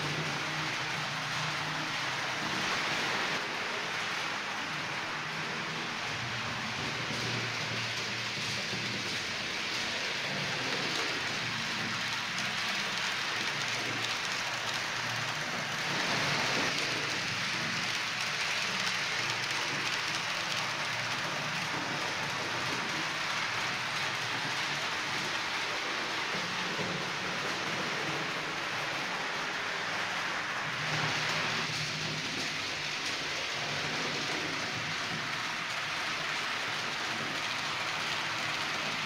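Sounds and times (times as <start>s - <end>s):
model locomotive motor: 0.0s - 39.0s
model train wheels rolling: 0.0s - 39.0s.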